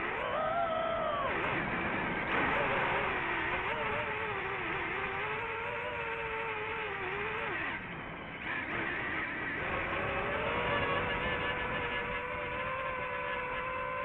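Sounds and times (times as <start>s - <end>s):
drone propeller motors whining: 0.0s - 14.0s.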